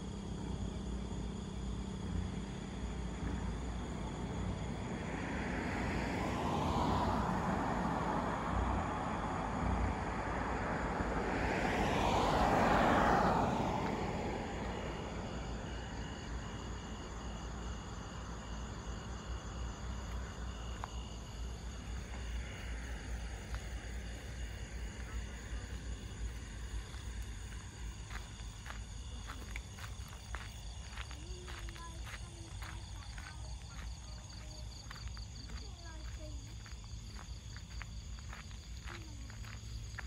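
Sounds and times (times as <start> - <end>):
vehicles driving past: 0.0 - 40.0.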